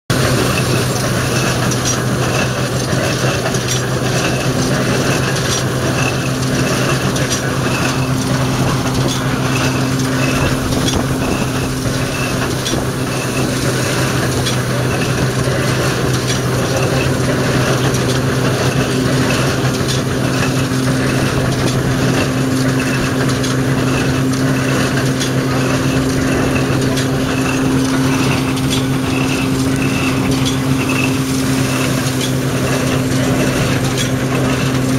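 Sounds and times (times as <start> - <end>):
threshing machine and baler running: 0.1 - 34.9.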